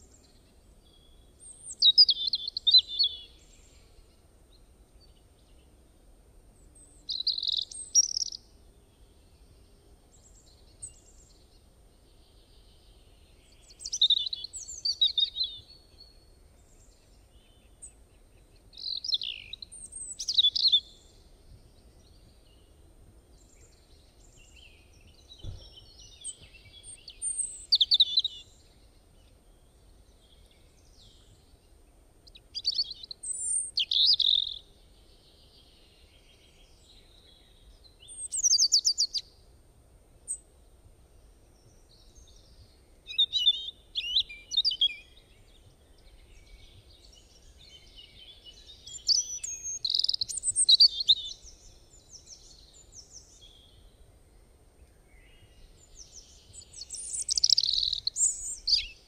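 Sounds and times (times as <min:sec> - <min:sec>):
small birds chirping: 0:00.0 - 0:39.4, 0:40.2 - 0:59.0.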